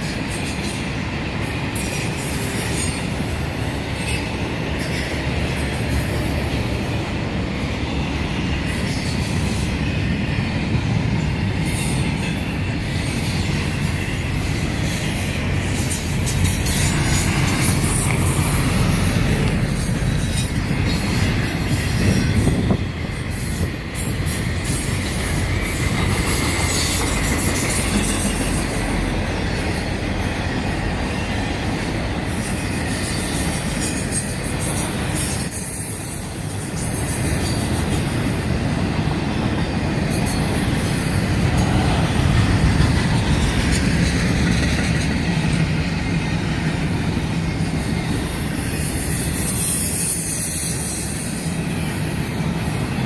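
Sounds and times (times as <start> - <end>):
freight train rolling on rails: 0.0 - 53.0.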